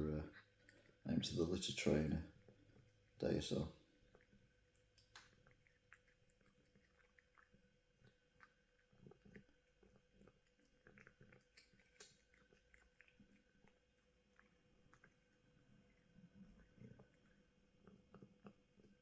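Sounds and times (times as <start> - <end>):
cat chewing: 0.3 - 19.0.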